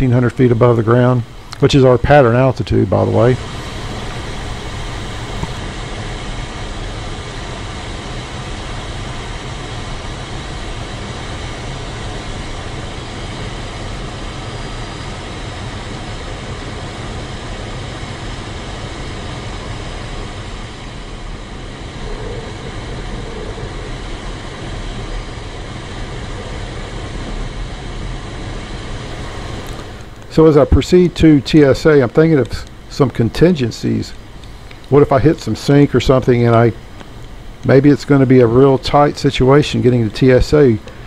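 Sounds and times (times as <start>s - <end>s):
rushing airflow in cockpit: 0.0s - 41.0s.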